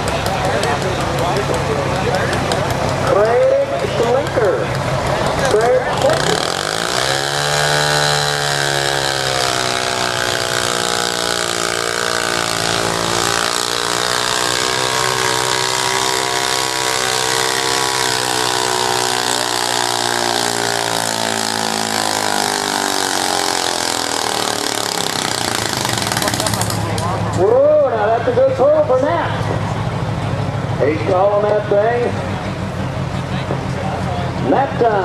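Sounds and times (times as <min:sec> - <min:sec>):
garden tractor engine under load: 0:00.0 - 0:35.0.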